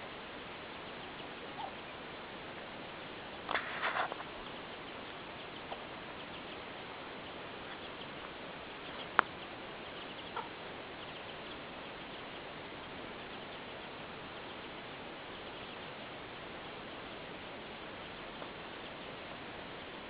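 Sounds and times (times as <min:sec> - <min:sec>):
steady hiss: 0:00.0 - 0:20.0
chickens chirping: 0:00.3 - 0:20.0.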